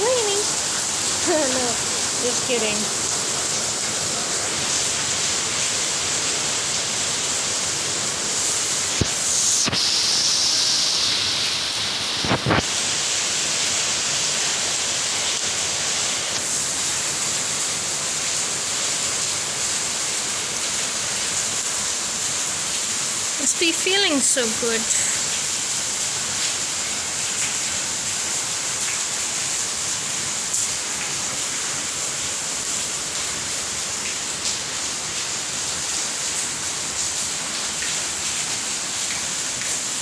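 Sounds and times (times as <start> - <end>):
heavy rain hiss: 0.0 - 40.0.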